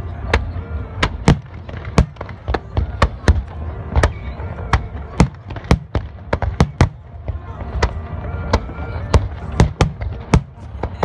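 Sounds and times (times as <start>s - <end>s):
fireworks bangs: 0.1s - 11.0s.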